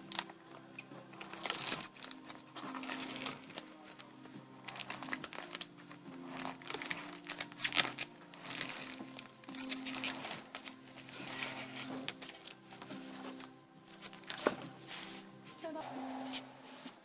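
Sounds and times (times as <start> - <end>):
plastic film peeling and crinkling: 0.0 - 15.8
soft background music: 0.0 - 17.0.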